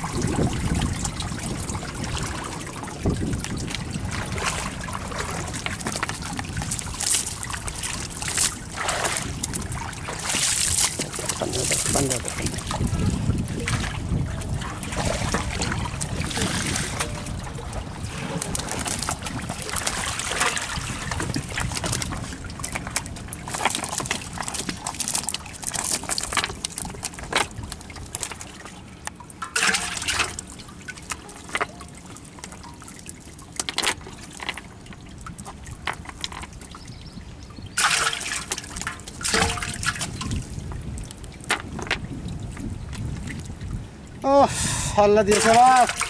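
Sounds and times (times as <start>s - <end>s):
water splashing and trickling: 0.0s - 46.0s.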